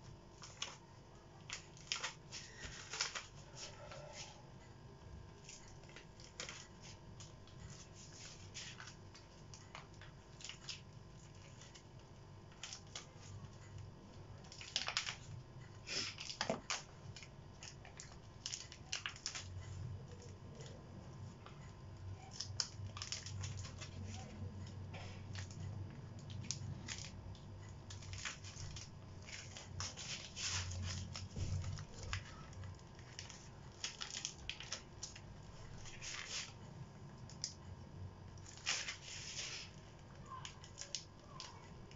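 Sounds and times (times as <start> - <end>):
glossy paper crinkling and rustling: 0.0 - 4.4, 5.3 - 41.9.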